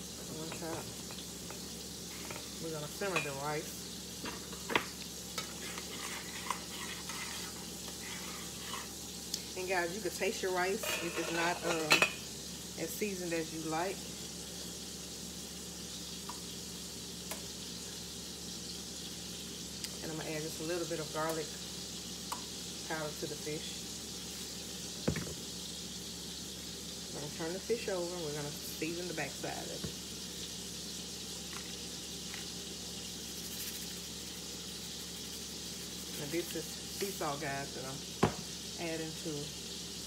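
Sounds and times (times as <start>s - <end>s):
fat sizzling in a pan: 0.0s - 40.0s.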